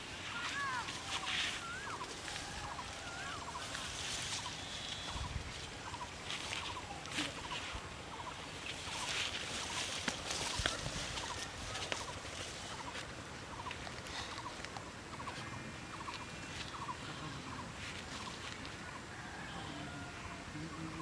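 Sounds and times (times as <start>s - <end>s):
rustling: 0.0s - 18.9s.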